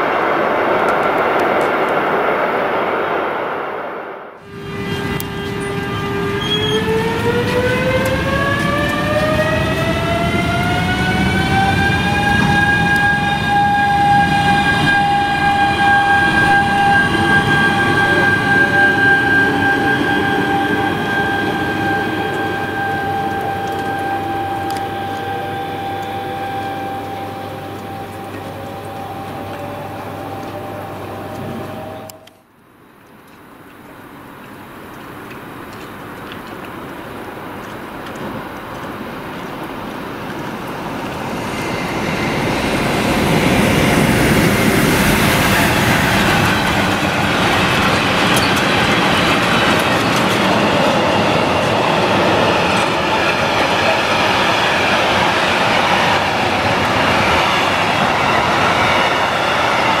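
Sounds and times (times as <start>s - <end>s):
electric train drive whine: 0.0s - 32.6s, 33.9s - 60.0s
train rumble: 0.0s - 60.0s.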